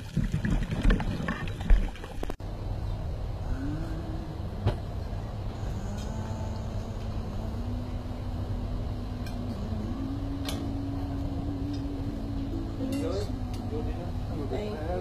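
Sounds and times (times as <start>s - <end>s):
low motor hum: 0.8s - 15.0s.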